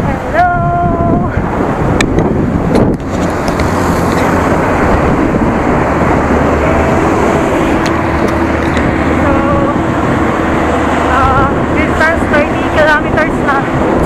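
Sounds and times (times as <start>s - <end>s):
motor vehicle engines: 0.0s - 14.0s
rush of air and tyre noise: 0.0s - 14.0s
steady engine drone: 0.0s - 14.0s.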